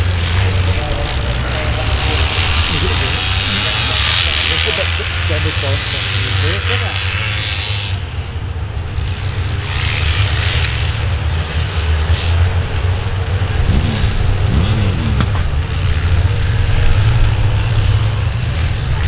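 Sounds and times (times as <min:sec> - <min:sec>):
motorcycle engines racing past: 0:00.0 - 0:19.0.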